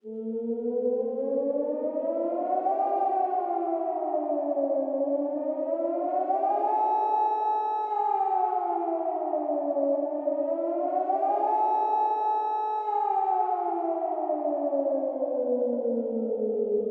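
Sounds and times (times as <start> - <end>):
air-raid siren wailing: 0.0 - 16.9.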